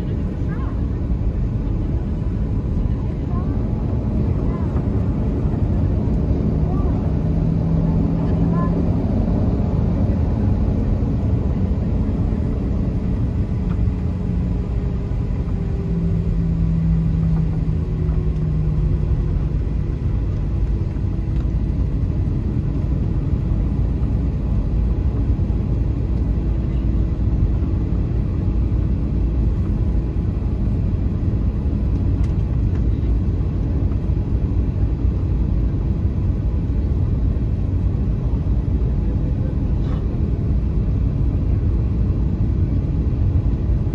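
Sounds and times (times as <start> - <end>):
jet engines rumbling in cabin: 0.0 - 43.9.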